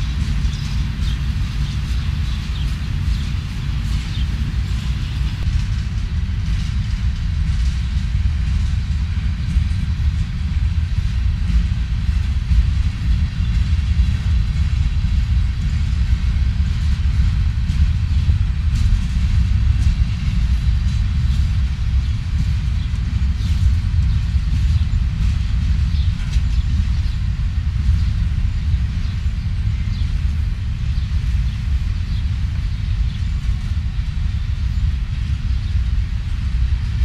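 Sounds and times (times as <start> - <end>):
freight train rolling past: 0.0 - 37.0.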